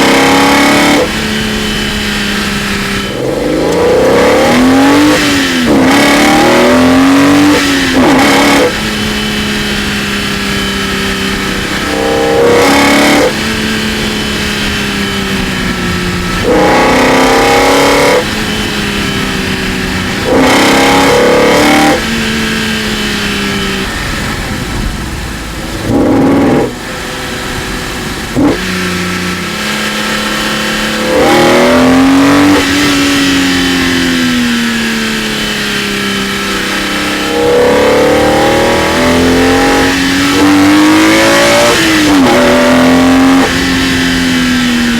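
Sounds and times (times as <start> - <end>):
loud engine induction bursts: 0.0 - 44.9
steady engine note cruising: 0.0 - 44.9.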